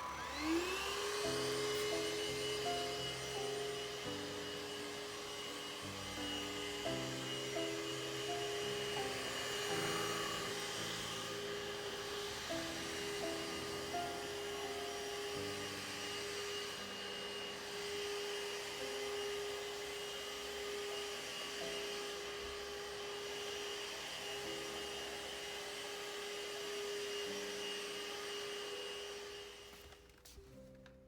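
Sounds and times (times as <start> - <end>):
electric motor whirring: 0.0 - 25.6
soft background music: 0.0 - 31.0.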